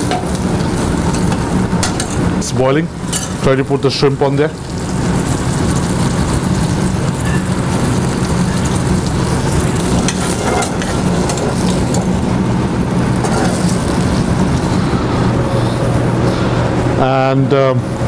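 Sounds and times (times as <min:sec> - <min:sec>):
sauce boiling and sizzling in a pan: 0:00.0 - 0:15.5
steady low hum: 0:00.0 - 0:18.0.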